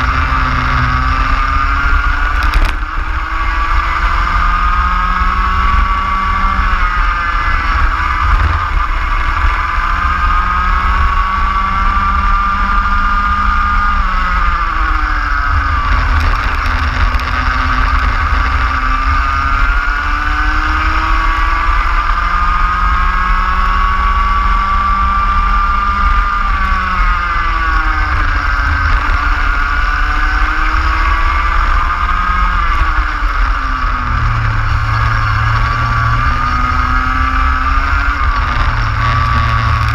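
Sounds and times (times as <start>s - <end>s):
steady low rumble: 0.0s - 11.5s, 12.1s - 39.9s
racing kart engine at full throttle: 0.0s - 39.9s.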